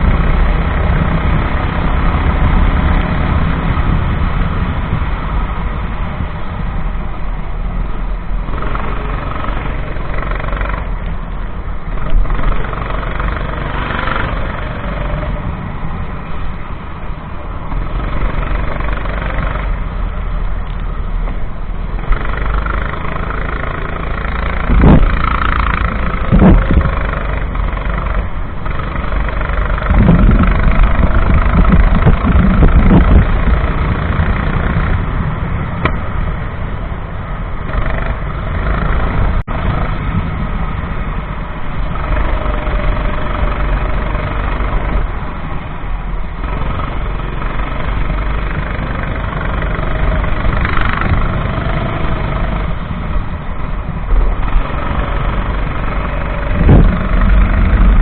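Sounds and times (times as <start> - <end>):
kart engine running: 0.0 - 6.8, 8.3 - 58.0.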